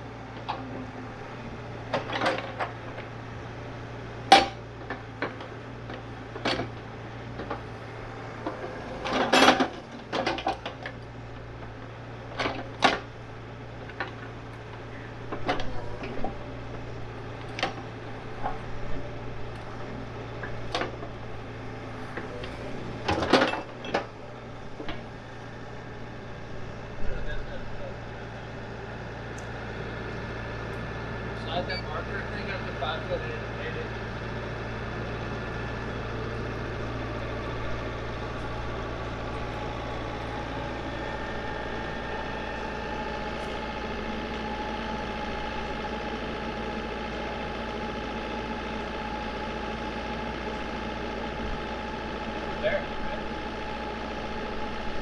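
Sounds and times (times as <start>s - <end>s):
excavator running: 0.0s - 55.0s.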